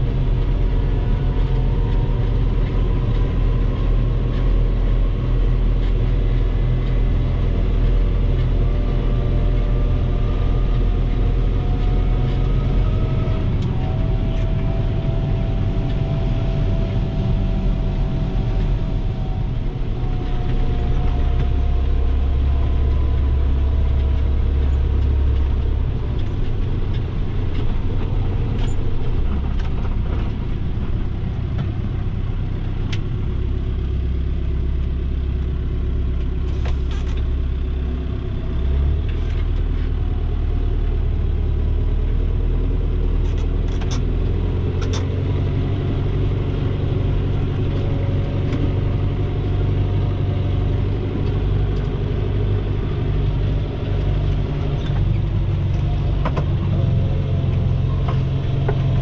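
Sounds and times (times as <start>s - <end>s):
tractor diesel engine rumbling: 0.0s - 59.0s.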